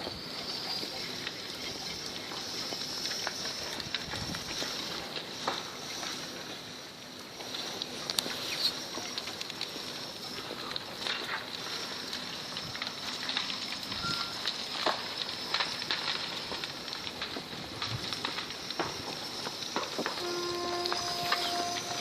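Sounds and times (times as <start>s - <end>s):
tumbling clods and stones: 0.0s - 6.4s, 7.2s - 22.0s
hiss of sliding earth: 0.0s - 22.0s.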